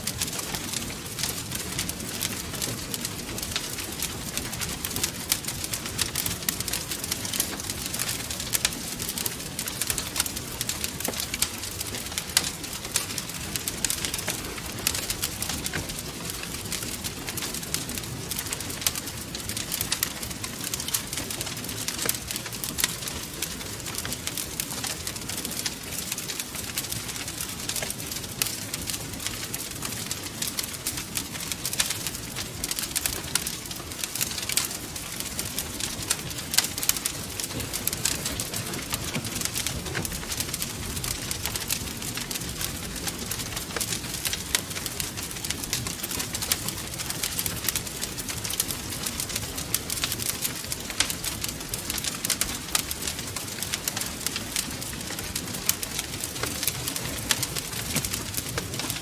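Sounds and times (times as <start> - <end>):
low rumble of burning logs: 0.0 - 59.0
wood fire crackling: 0.0 - 59.0.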